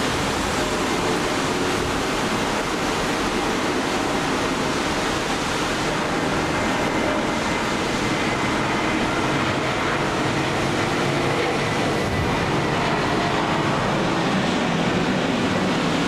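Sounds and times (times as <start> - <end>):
jet plane passing overhead: 0.0 - 16.0.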